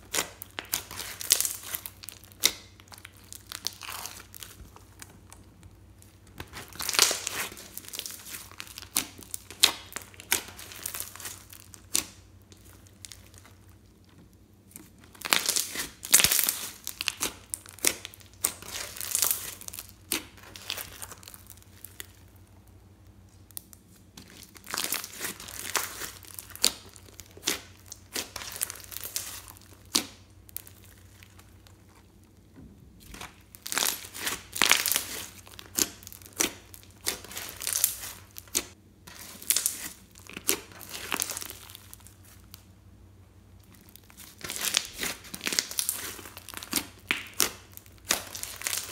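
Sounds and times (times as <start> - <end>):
slime crackling and popping: 0.0 - 42.7, 43.6 - 48.9.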